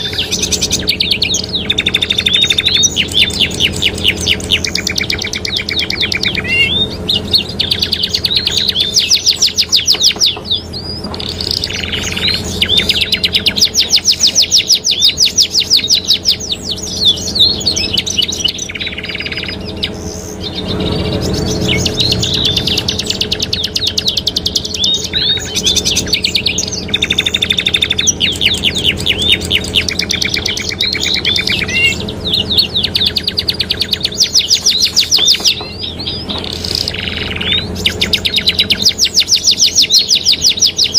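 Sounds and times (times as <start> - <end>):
canaries singing trills: 0.0 - 40.9
steady low hum: 0.0 - 40.9.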